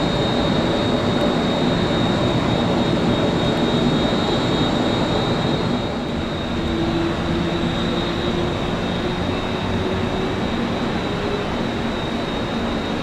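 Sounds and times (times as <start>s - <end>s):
high engine whine: 0.0s - 13.0s
jet engines roaring: 0.0s - 13.0s.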